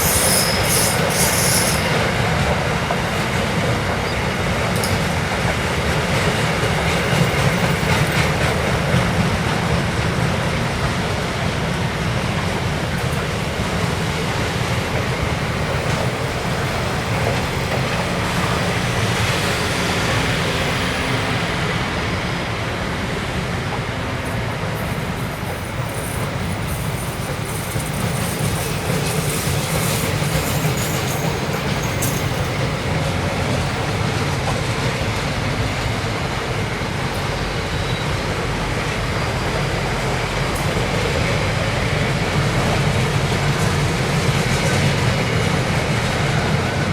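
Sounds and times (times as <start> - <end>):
freight train wheels on rails: 0.0 - 46.9.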